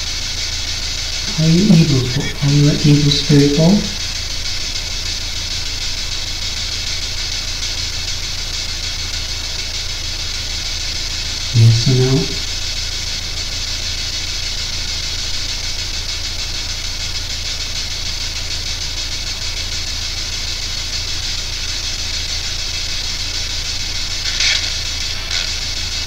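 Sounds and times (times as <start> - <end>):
low electrical hum: 0.0 - 26.0
radio static hiss: 0.0 - 26.0.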